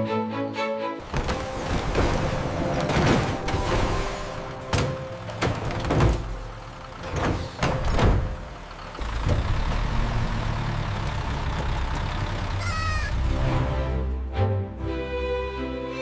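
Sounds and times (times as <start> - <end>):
tractor engine rumbling: 1.0 - 14.3.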